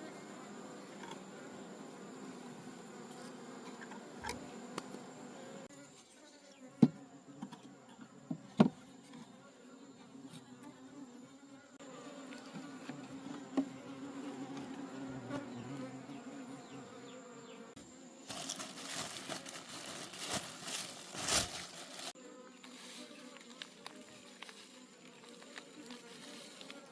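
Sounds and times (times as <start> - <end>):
bees buzzing: 0.0 - 26.9.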